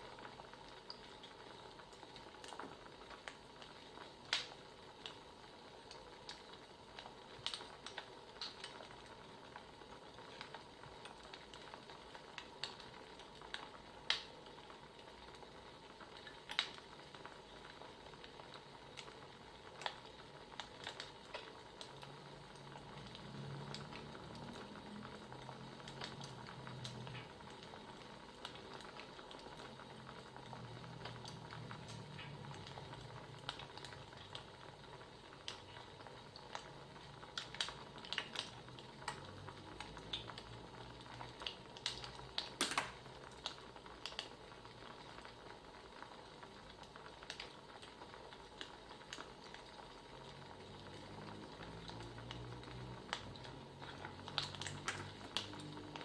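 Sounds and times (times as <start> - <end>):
low steady hiss: 0.0 - 56.0
wood fire crackling: 0.0 - 56.0.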